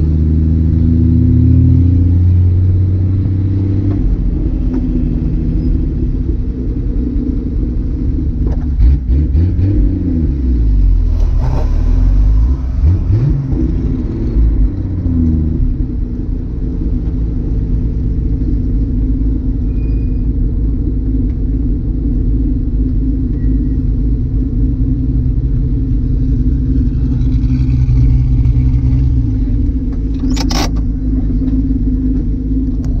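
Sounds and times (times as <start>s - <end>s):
car engine and exhaust running: 0.0s - 33.0s.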